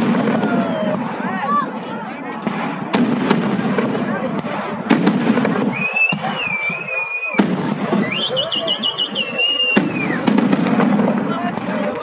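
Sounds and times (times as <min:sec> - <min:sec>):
whistling fireworks: 0:00.0 - 0:01.6, 0:02.3 - 0:12.0
firework bangs: 0:00.0 - 0:12.0.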